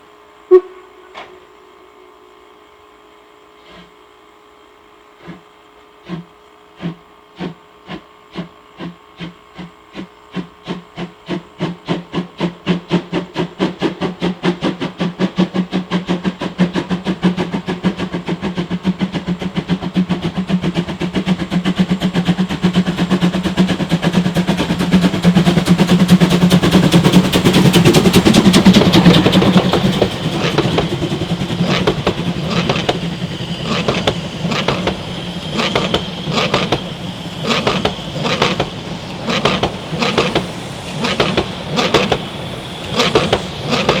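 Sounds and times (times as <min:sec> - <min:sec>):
steam locomotive exhaust chuffs: 0:00.0 - 0:44.0.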